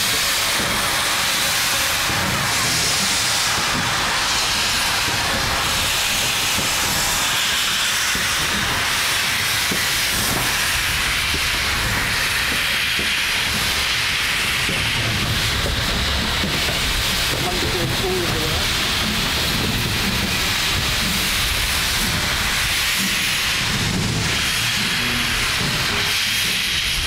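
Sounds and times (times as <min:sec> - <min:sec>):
steam locomotives hissing steam: 0:00.0 - 0:27.0.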